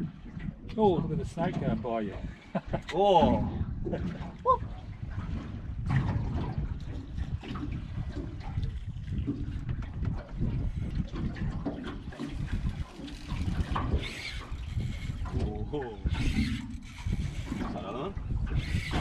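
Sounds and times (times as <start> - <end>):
low rumbling: 0.0 - 19.0
water lapping against boat hull: 0.0 - 19.0.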